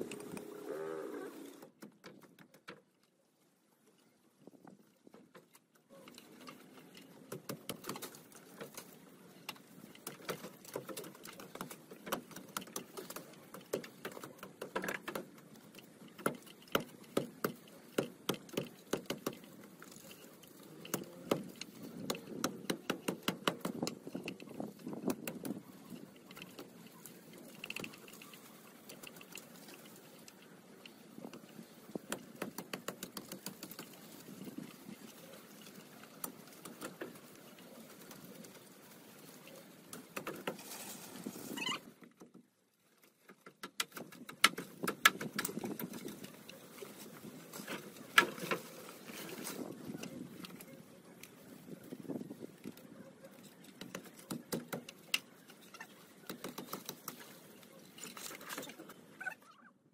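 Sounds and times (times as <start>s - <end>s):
foliage rustling: 0.0s - 1.7s, 3.4s - 59.7s
twigs crackling and snapping: 5.0s - 59.5s.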